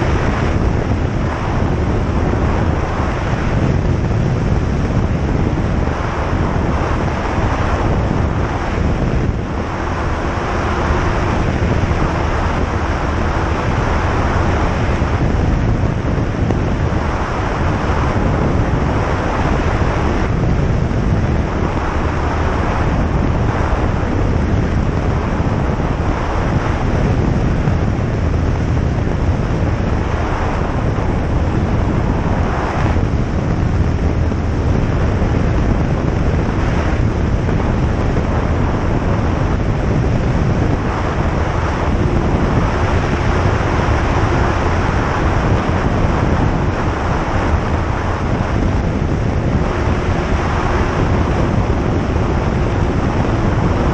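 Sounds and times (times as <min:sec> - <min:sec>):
aircraft engine and propeller drone: 0:00.0 - 0:53.9
wind noise: 0:00.0 - 0:53.9.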